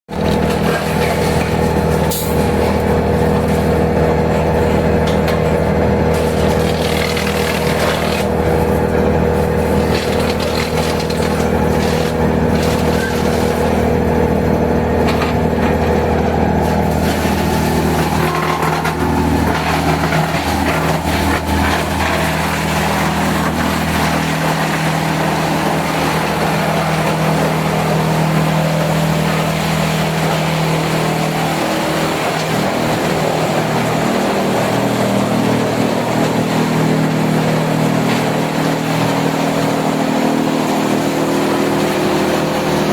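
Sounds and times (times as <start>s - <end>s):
wood chipper humming: 0.1s - 42.9s.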